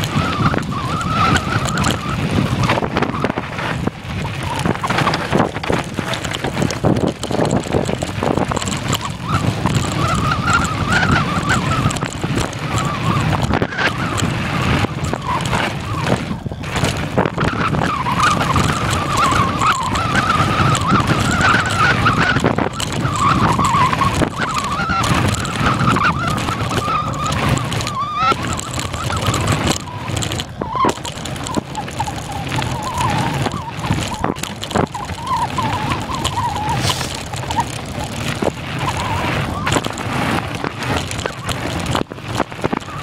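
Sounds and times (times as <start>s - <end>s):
wavering whine: 0.0s - 42.1s
bike knocking and rattling: 0.0s - 43.0s
tyres rumbling over ground: 0.0s - 43.0s.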